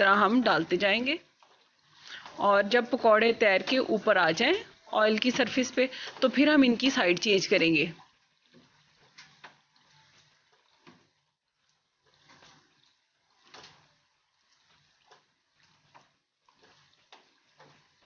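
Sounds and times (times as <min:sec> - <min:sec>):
food frying in hot oil: 0:00.0 - 0:18.0.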